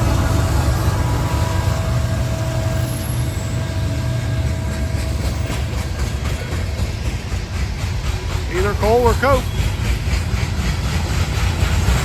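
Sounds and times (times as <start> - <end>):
diesel locomotive rumbling: 0.0 - 12.0
train wheels clicking over rails: 0.0 - 12.0.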